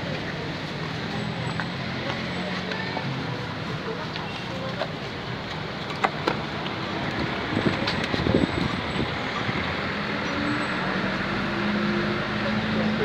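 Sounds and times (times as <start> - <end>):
street traffic noise: 0.0 - 13.0
vehicle engine hum: 0.0 - 13.0.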